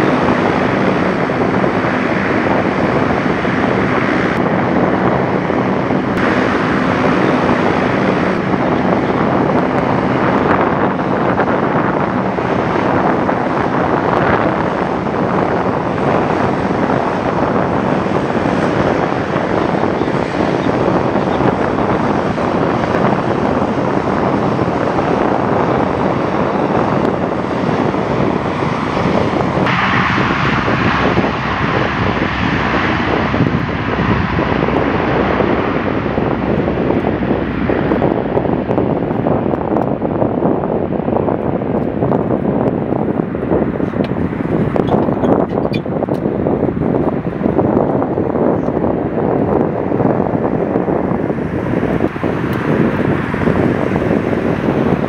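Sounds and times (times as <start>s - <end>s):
turboprop engines roaring: 0.0s - 55.0s.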